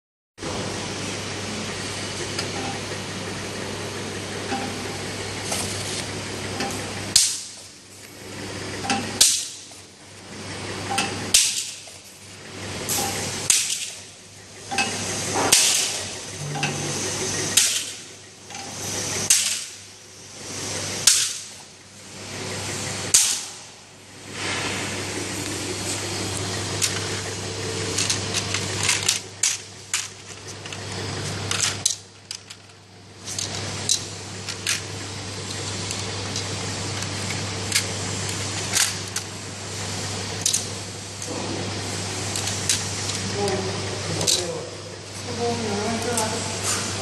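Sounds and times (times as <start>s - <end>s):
labeling machine hum: 0.4s - 47.0s.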